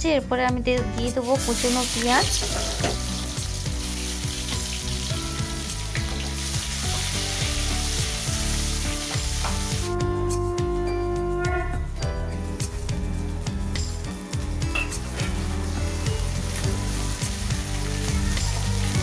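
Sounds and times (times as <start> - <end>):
onion sizzling in hot oil: 1.2 - 9.9, 12.4 - 19.0
musical notes: 1.2 - 19.0.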